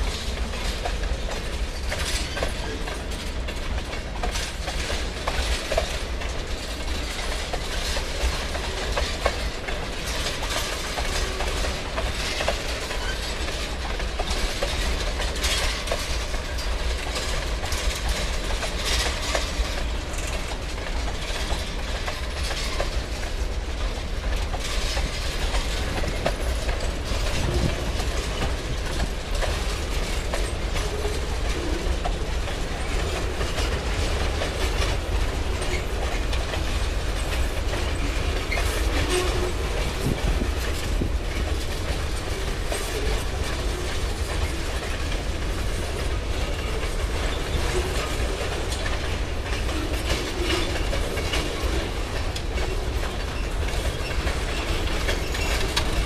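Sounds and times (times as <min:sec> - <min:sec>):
train wheels rumbling on rail: 0:00.0 - 0:56.0
wheels clicking over rail joints: 0:00.0 - 0:56.0.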